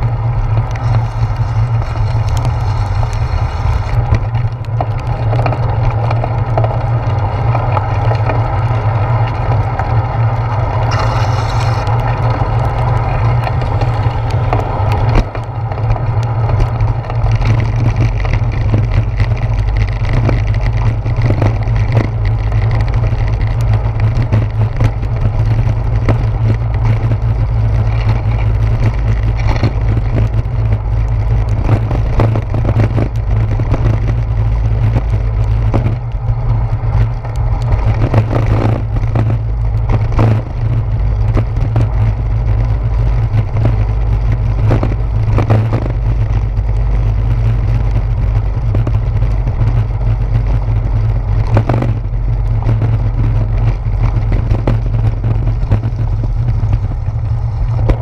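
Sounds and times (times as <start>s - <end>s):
bicycle rolling over brick pavers: 0.0s - 58.0s
knocks and rattles over bumps: 0.0s - 58.0s.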